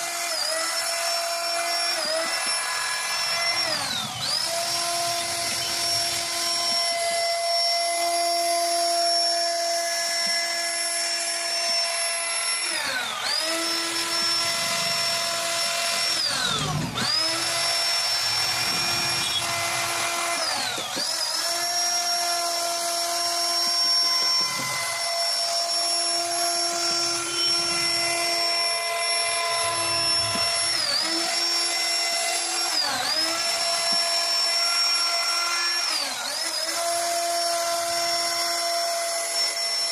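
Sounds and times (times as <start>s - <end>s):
router spindle whining cutting wood: 0.0s - 39.9s.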